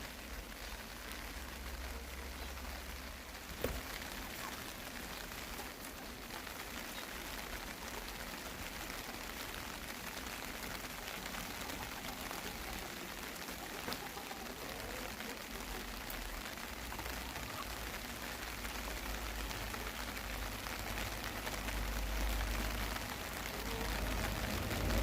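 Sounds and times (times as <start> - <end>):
rain pattering on surfaces: 0.0 - 25.0.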